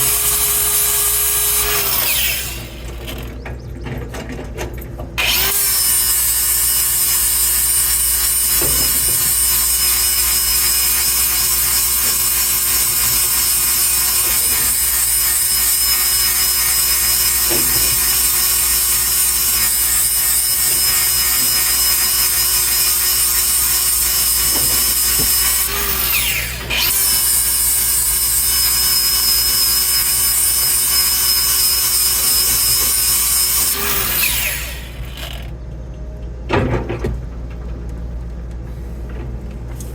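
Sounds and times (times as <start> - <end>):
power grinder grinding: 0.0 - 3.4, 5.2 - 35.6.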